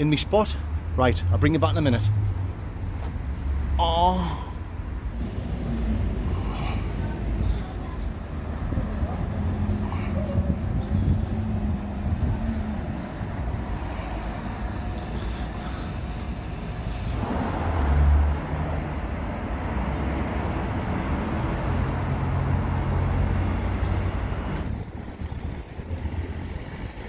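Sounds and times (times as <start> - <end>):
road traffic engine hum: 0.0 - 27.0.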